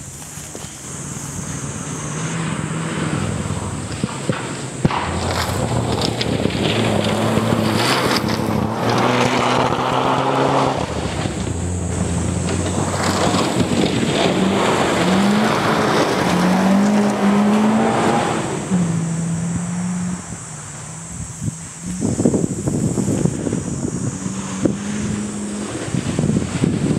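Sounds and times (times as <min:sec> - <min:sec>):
rally car engine revving: 0:00.3 - 0:26.9.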